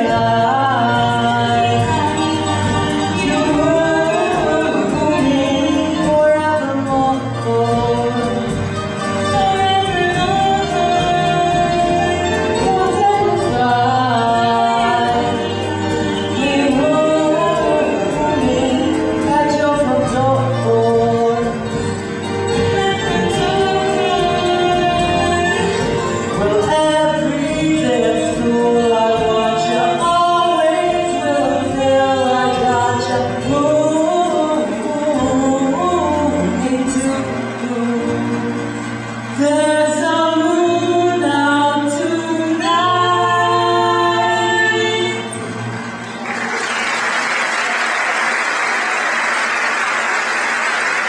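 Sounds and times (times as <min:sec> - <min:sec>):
voices singing in harmony: 0:00.0 - 0:08.6, 0:09.4 - 0:21.8, 0:22.4 - 0:45.7
low musical accompaniment: 0:00.0 - 0:47.0.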